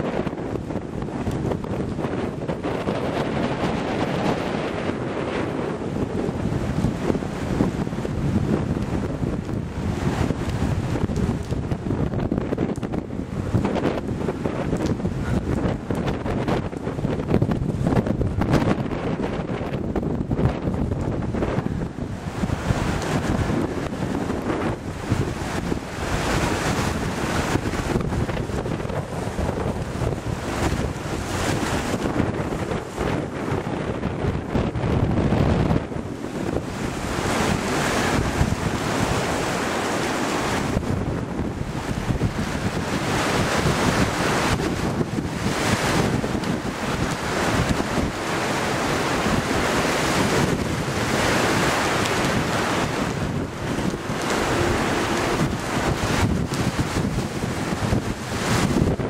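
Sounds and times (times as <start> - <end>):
storm wind buffeting microphone: 0.0 - 59.0
surf washing: 0.0 - 59.0.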